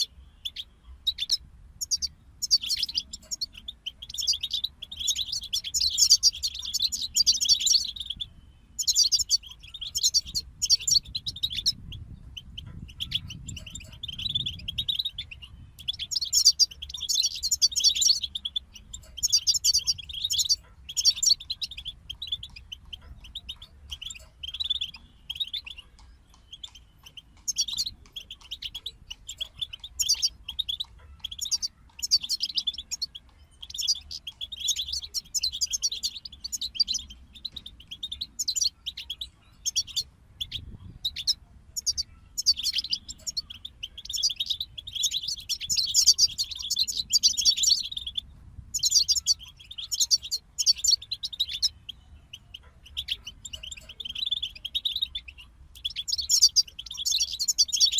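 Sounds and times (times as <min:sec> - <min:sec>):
bird twittering: 0:00.0 - 0:57.9.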